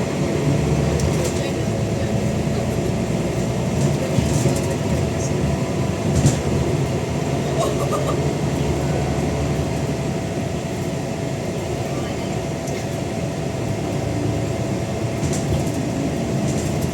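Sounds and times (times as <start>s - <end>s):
bus engine running: 0.0s - 16.9s.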